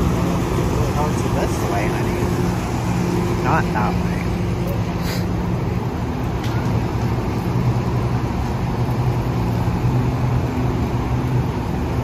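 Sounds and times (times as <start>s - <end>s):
tram low mechanical hum: 0.0s - 12.0s.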